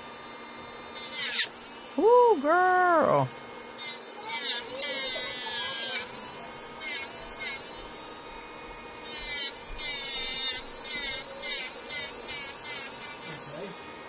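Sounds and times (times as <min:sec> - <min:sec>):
electric nail drill whining: 0:00.0 - 0:14.0.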